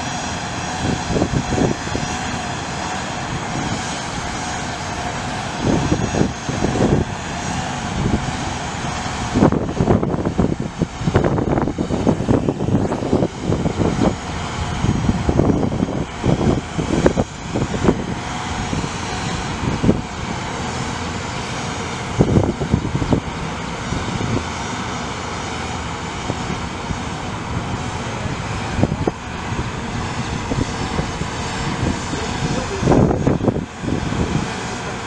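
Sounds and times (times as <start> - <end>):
diesel engine running: 0.0 - 35.0
wind buffeting microphone: 0.0 - 35.0.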